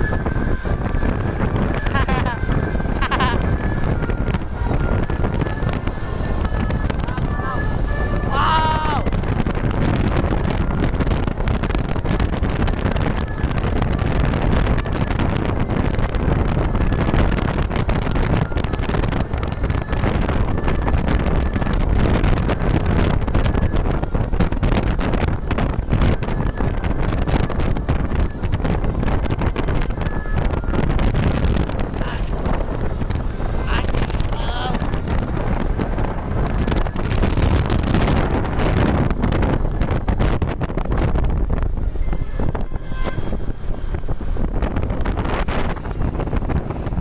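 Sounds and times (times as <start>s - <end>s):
bus moving slowly: 0.0s - 47.0s
road traffic rumble: 0.0s - 47.0s
wind buffeting microphone: 0.0s - 47.0s.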